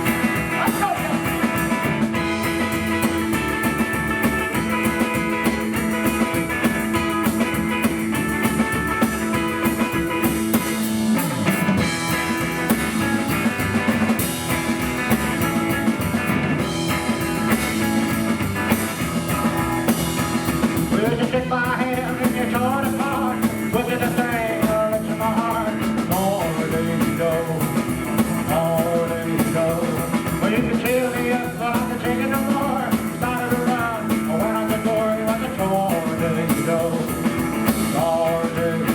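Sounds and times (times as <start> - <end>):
double bass: 0.0 - 38.9
drums: 0.0 - 38.9
electric guitar: 0.0 - 38.9.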